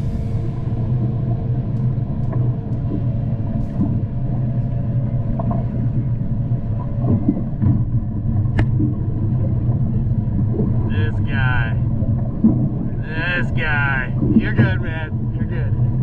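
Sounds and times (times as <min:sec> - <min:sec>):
outboard motor rumbling: 0:00.0 - 0:16.0
water noise: 0:00.0 - 0:16.0.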